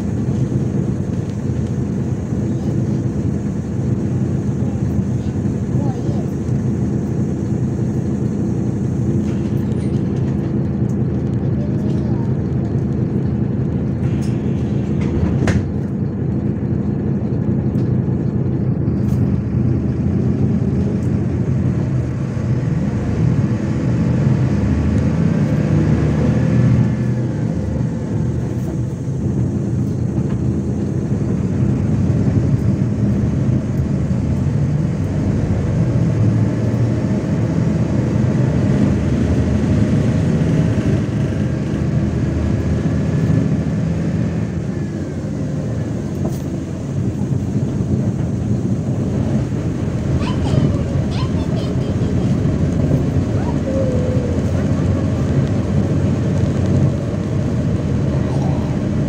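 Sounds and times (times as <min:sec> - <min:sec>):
bus engine hum: 0:00.0 - 0:59.0.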